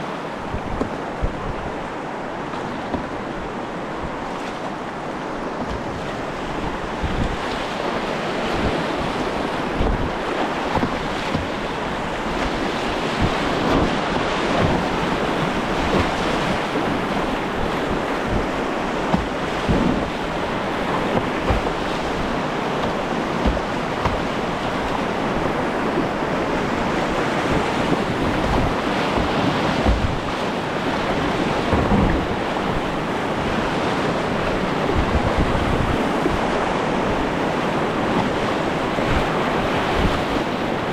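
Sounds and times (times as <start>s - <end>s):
low wind buffets on microphone: 0.0s - 40.9s
whitewater rushing: 0.0s - 40.9s.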